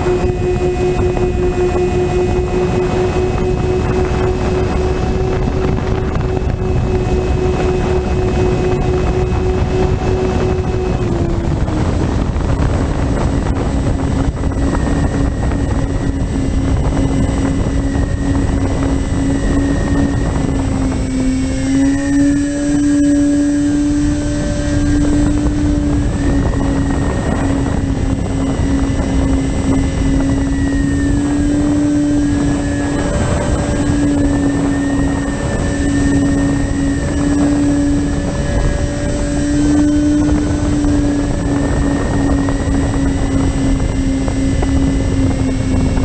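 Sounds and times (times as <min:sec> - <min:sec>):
model plane propellers droning: 0:00.0 - 0:46.0
rush of air: 0:00.0 - 0:46.0.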